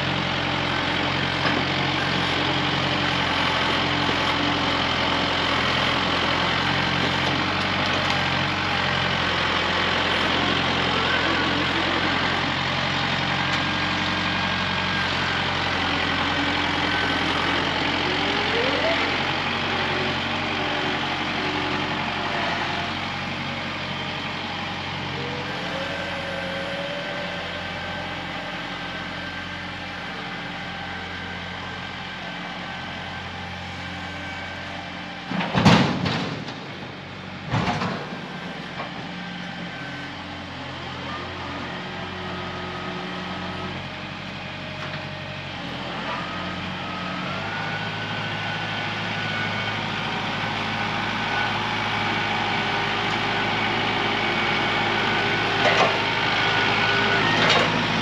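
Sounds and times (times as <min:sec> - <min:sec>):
vehicle engine running: 0:00.0 - 0:35.5, 0:36.4 - 0:58.0.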